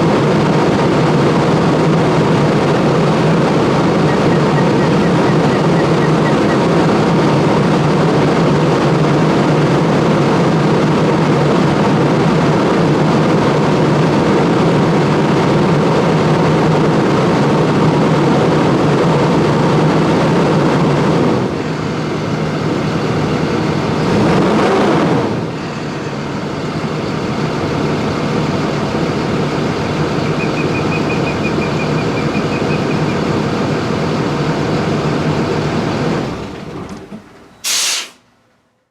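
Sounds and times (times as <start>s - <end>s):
bus diesel engine exhaust: 0.0s - 38.9s.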